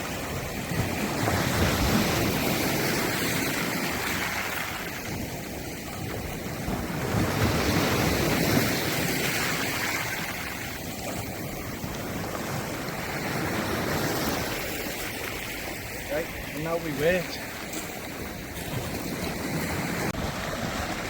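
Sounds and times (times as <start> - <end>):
sea waves washing in: 0.0 - 21.0
wind buffeting microphone: 0.0 - 21.0.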